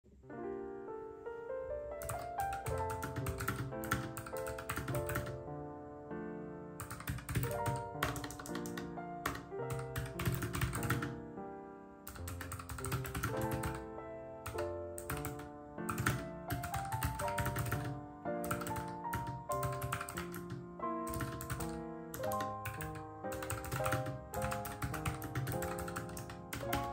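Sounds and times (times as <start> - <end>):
background music: 0.1 - 26.9
keyboard typing clicks: 2.0 - 5.4, 6.8 - 11.2, 12.1 - 13.8, 14.5 - 26.9.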